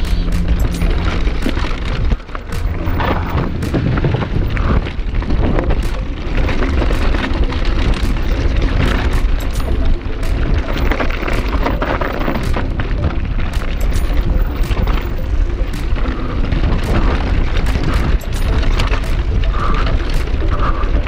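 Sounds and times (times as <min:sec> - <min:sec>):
bike rattling over rocks: 0:00.0 - 0:21.0
wind buffeting microphone: 0:00.0 - 0:21.0.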